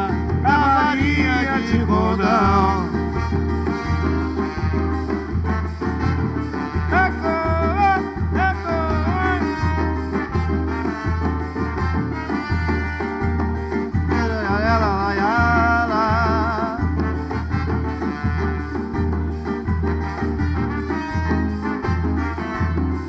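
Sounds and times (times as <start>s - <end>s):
instrumental band music: 0.0s - 23.0s
sliding melodic lead line: 0.0s - 23.0s
steady bass beat: 0.0s - 23.0s.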